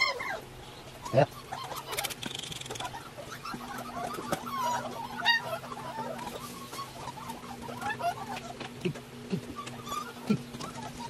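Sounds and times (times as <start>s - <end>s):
puppies whining and yelping: 0.0s - 11.0s.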